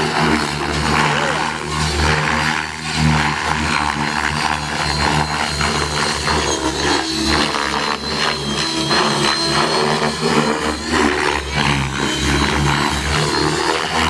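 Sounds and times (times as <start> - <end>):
helicopter rotor blades chopping: 0.0 - 14.0
high-pitched motor whine: 0.0 - 14.0.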